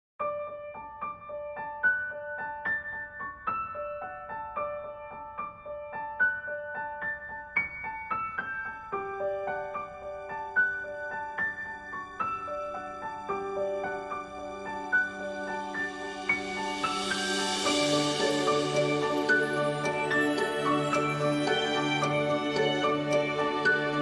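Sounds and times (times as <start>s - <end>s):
gentle piano melody: 0.2s - 24.0s.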